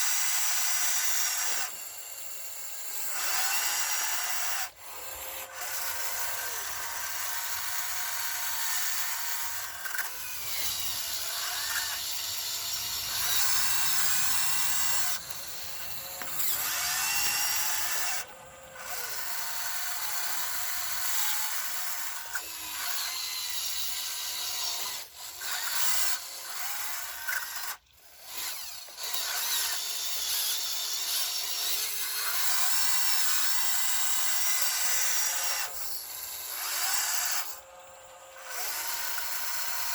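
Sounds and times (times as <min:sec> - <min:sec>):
small electric motors whirring: 0:00.0 - 0:39.9.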